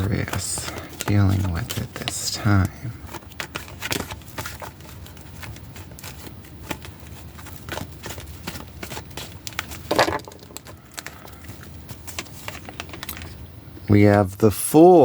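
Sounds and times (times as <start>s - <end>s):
cards being shuffled: 0.0s - 13.4s.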